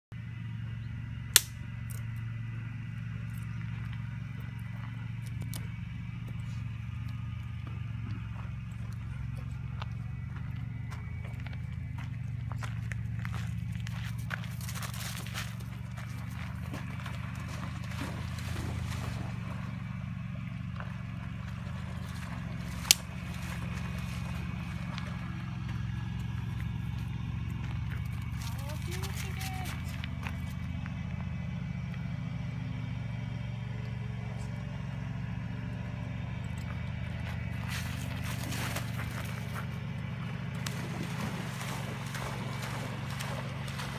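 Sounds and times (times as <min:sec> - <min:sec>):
steady low hum: 0:00.1 - 0:43.9.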